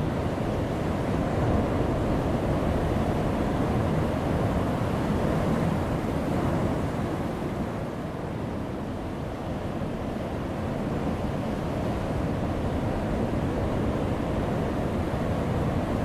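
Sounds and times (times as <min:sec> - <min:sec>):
ocean surf on rocky shore: 0:00.0 - 0:16.0.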